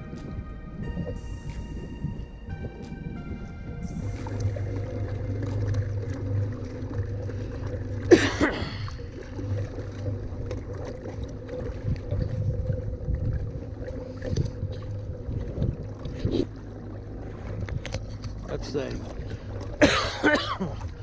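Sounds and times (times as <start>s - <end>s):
steady low hum: 0.0s - 21.0s
water washing along kayak hull: 0.0s - 21.0s.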